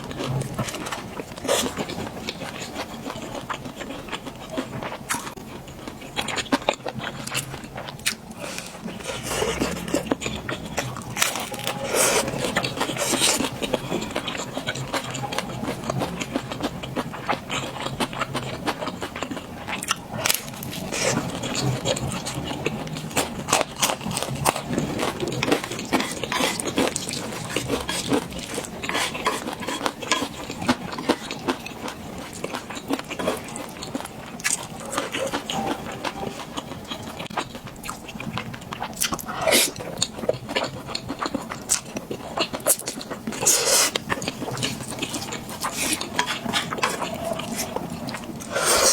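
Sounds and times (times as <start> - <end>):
chewing and mouth sounds: 0.0 - 48.9.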